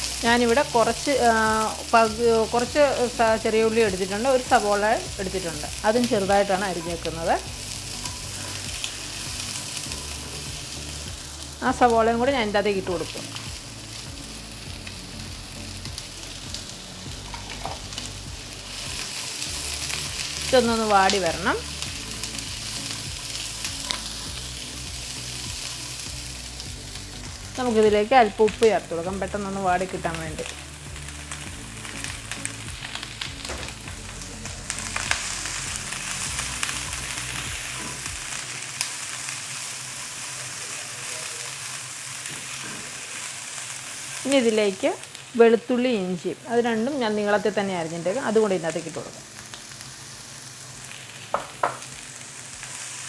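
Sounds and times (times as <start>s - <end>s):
onions sizzling in hot oil: 0.0s - 53.0s.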